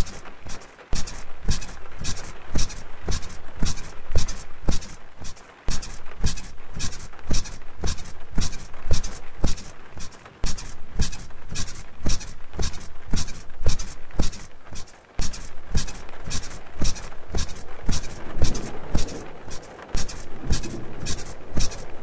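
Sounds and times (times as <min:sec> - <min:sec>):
bed squeaking rhythmically: 0:00.0 - 0:22.0
rain hiss: 0:00.0 - 0:22.0.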